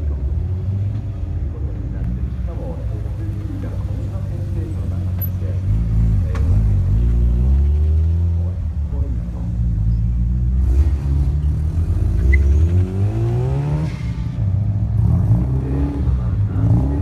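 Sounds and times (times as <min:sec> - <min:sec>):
car engines with throttle blips: 0:00.0 - 0:17.0
car engine revving: 0:02.0 - 0:17.0.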